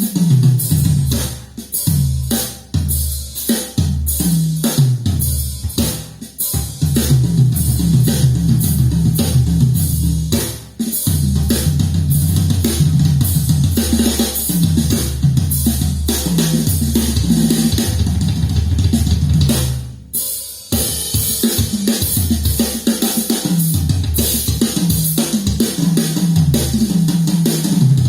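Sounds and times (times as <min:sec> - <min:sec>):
drum and bass music over loudspeakers: 0:00.0 - 0:28.0.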